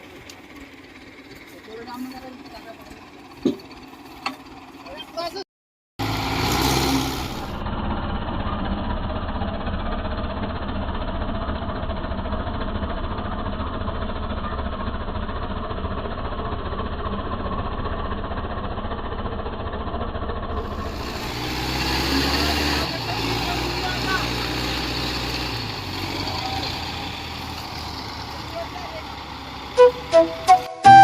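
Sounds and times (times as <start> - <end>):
tractor engine running: 0.0 - 5.4, 6.0 - 31.0.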